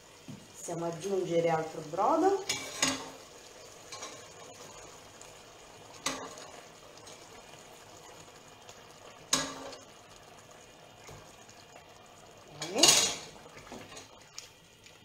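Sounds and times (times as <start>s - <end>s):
faint simmering: 0.0s - 15.0s.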